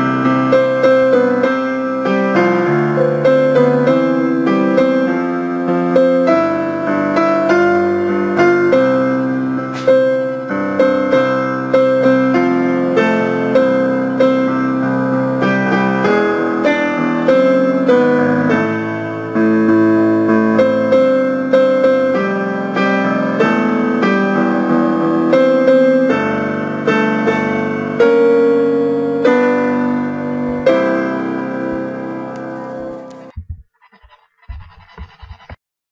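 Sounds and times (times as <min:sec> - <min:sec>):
piano chords: 0:00.0 - 0:33.4.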